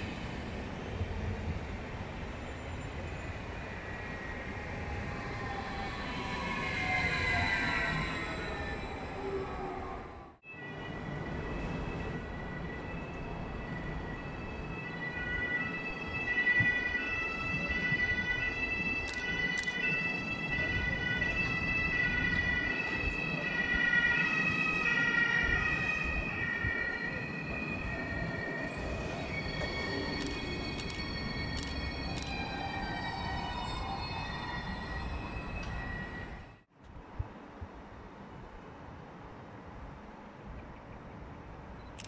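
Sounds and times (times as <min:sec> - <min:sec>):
train traction converters whining: 0:00.0 - 0:36.6
low train rumble: 0:00.0 - 0:42.0.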